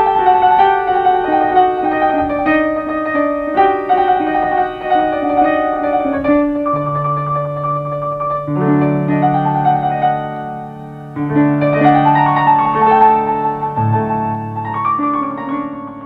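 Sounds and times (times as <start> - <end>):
piano playing held chords: 0.0 - 16.0.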